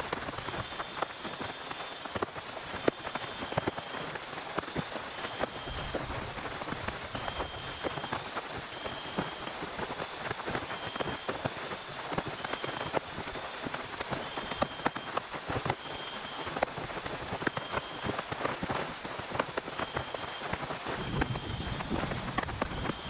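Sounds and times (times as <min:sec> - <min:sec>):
heavy rain on a tent: 0:00.0 - 0:23.0.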